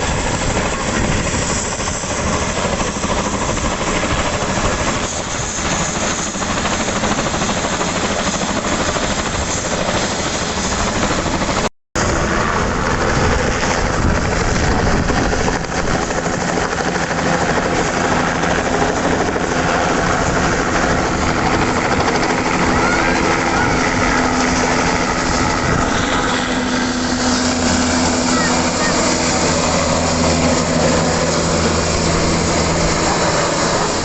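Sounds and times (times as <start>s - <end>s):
helicopter rotor chop: 0.0s - 34.0s.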